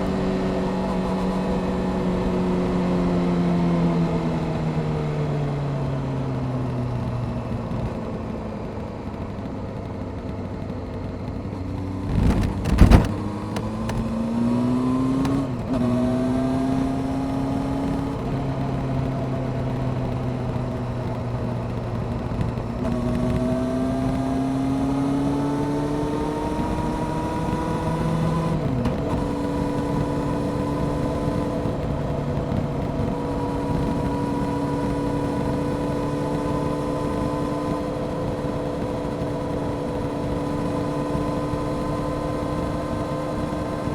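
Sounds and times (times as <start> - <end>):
motorcycle engine accelerating: 0.0 - 43.9
wind and road noise: 0.0 - 43.9.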